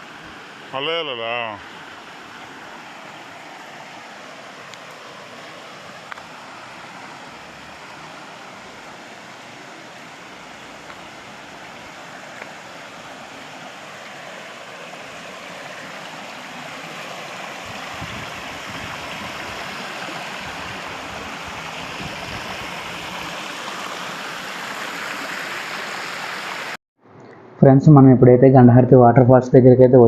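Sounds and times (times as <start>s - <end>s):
water rushing over rocks: 0.0s - 26.8s.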